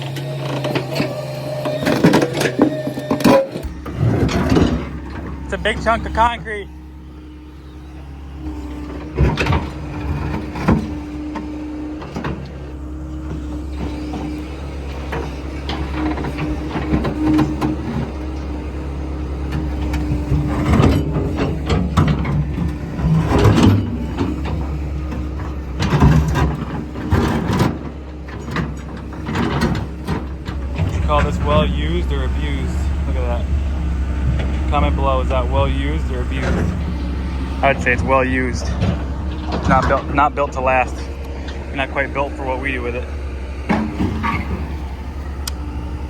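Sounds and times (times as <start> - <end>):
scraping and clanking of debris: 0.0 - 7.4, 8.2 - 45.7
excavator engine running: 0.0 - 46.0
hydraulic whine: 0.0 - 46.0.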